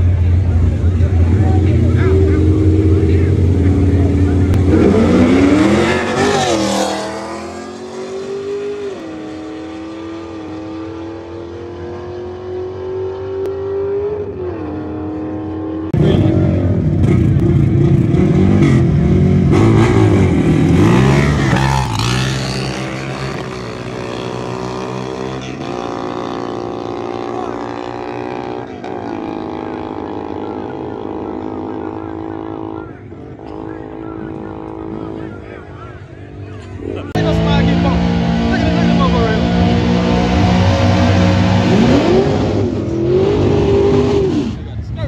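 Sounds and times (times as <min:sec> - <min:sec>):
race car engine at full throttle: 0:00.0 - 0:45.0
nearby engine revving: 0:01.0 - 0:35.9, 0:36.8 - 0:44.7.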